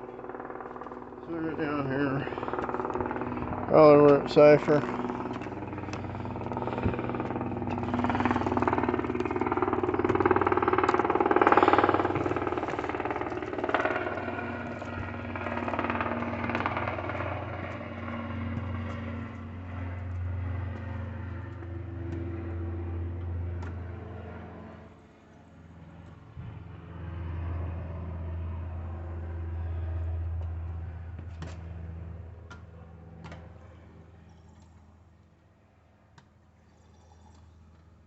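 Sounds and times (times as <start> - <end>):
engine running: 0.0 - 36.4.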